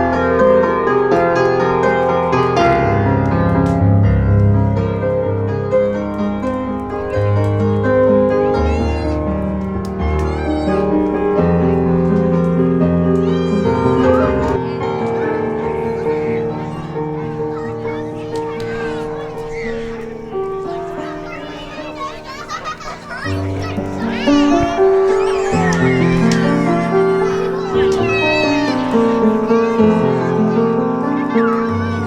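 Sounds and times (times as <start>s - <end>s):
piano music: 0.0s - 32.0s.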